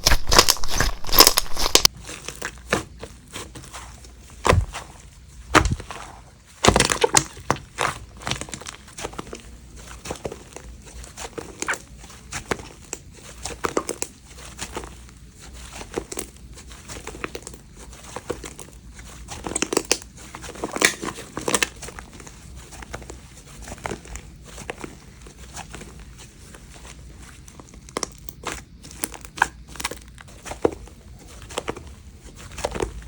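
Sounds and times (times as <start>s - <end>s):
slime squished by hand: 0.0s - 33.0s.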